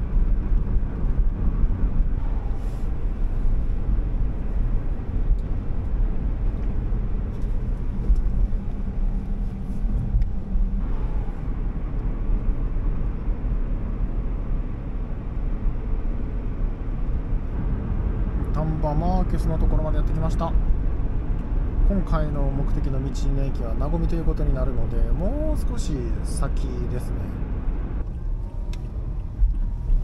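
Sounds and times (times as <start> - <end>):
car engine running: 0.0 - 30.0
road and tyre noise: 0.0 - 30.0.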